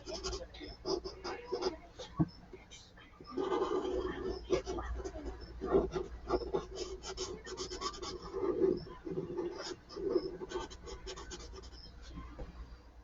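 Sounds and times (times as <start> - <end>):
marker scratching on paper: 0.0 - 1.8, 3.2 - 12.3.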